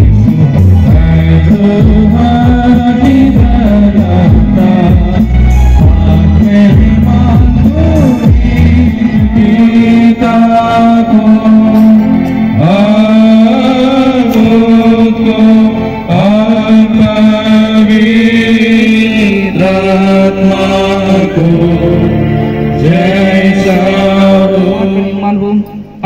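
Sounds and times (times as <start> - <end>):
steady low drone note: 0.0 - 25.7
person singing a hymn: 0.0 - 26.0.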